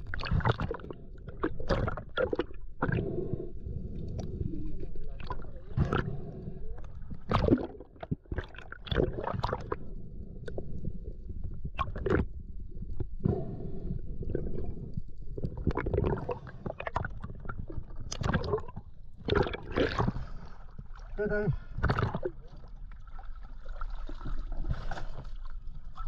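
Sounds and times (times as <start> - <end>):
muffled underwater rumble: 0.0 - 23.2
water gurgling: 0.0 - 26.0.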